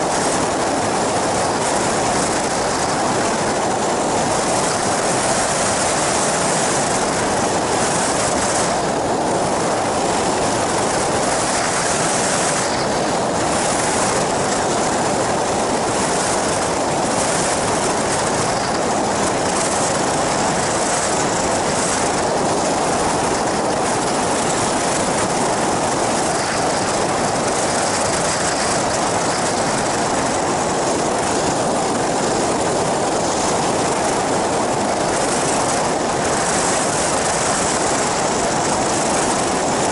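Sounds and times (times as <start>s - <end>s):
aircraft engine and propeller: 0.0s - 39.9s.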